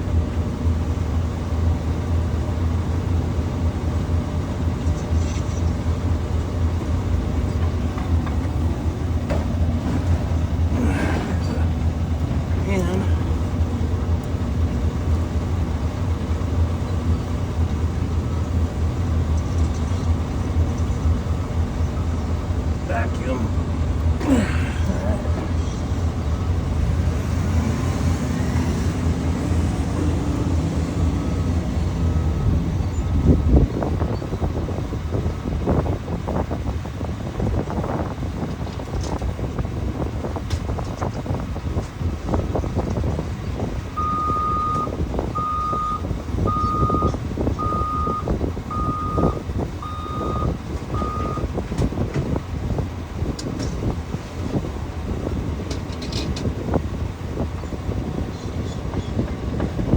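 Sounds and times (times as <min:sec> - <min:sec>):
machinery rumbling: 0:00.0 - 0:59.9.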